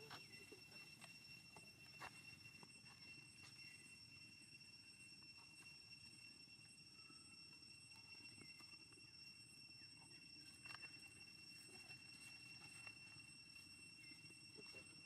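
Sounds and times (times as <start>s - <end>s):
steady high-pitched tone: 0.0s - 15.0s.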